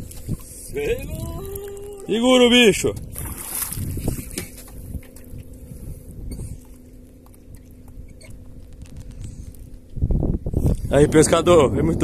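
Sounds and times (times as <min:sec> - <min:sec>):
water lapping against boat: 0:00.0 - 0:11.6
wind rumble on microphone: 0:00.0 - 0:12.0.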